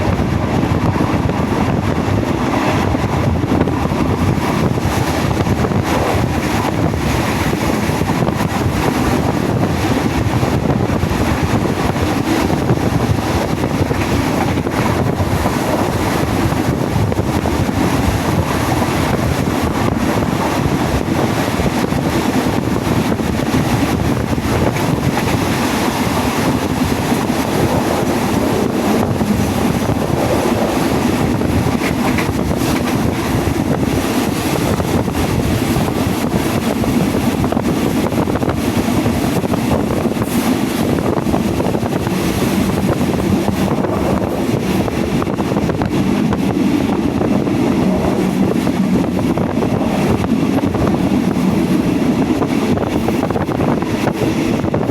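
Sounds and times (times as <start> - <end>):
train wheels rumbling on rails: 0.0 - 54.9
wind buffeting microphone: 0.0 - 54.9.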